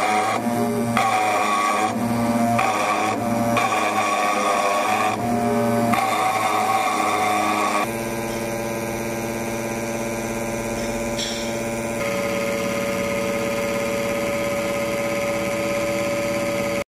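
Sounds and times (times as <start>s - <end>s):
engraving machine whine and hum: 0.0s - 16.9s.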